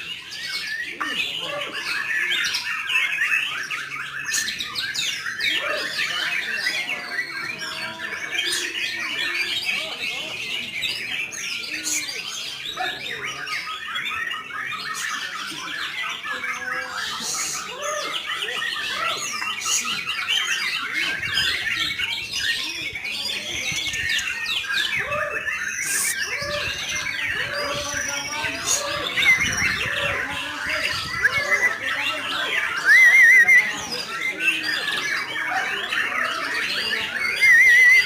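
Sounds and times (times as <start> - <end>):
many birds singing and chirping: 0.0 - 38.0.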